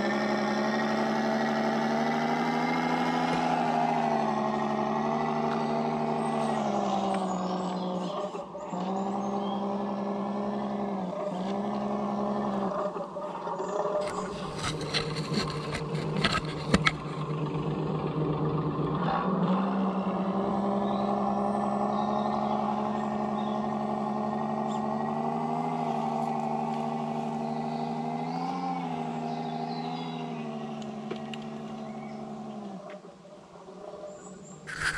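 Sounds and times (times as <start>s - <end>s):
toy truck motor humming: 0.0s - 32.7s, 34.7s - 34.9s.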